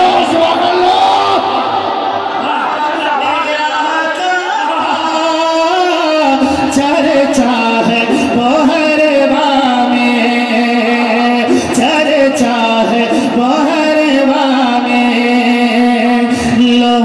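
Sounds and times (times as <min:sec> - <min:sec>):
man singing into a microphone: 0:02.4 - 0:17.0.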